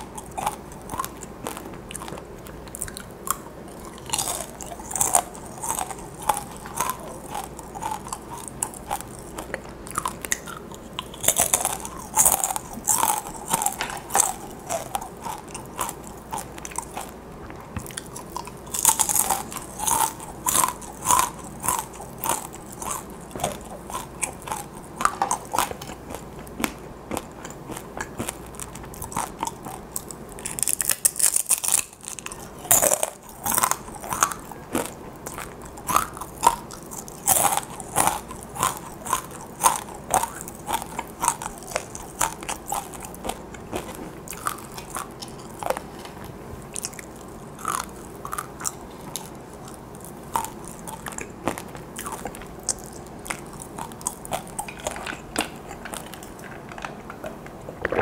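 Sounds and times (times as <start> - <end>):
crunching and chewing crisp chip: 0.0 - 58.0.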